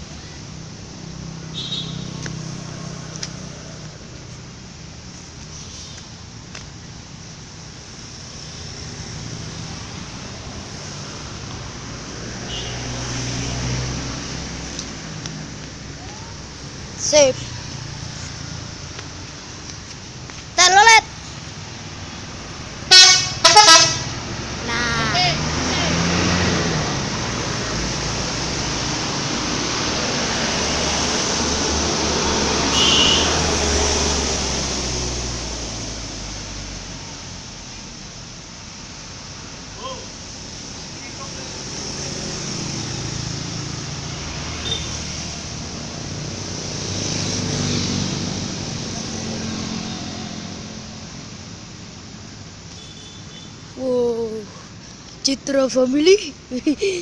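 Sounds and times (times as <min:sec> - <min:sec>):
heavy vehicle engine drone: 0:00.0 - 0:20.2, 0:20.8 - 0:57.0
roadside traffic noise: 0:00.0 - 0:57.0.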